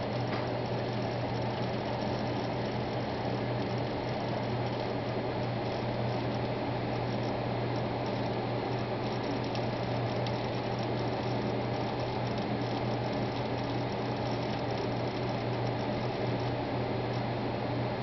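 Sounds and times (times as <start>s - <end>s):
hard drive heads clicking: 0.0s - 17.2s
hard drive humming: 0.0s - 18.0s.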